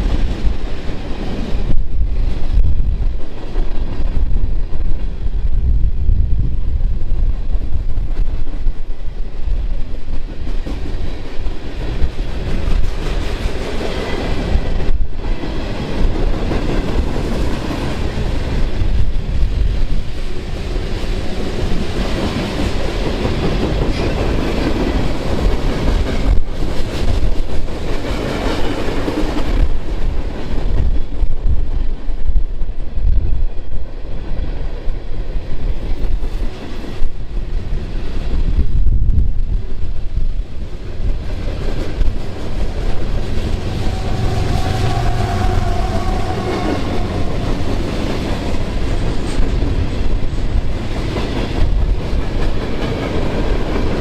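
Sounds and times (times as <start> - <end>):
train passing: 0.0 - 54.0.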